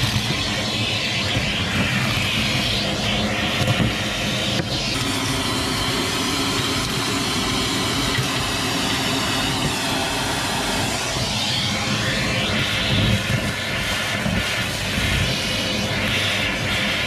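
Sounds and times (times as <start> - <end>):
electric fan rushing air: 0.0 - 17.0
motor whine: 0.0 - 17.0.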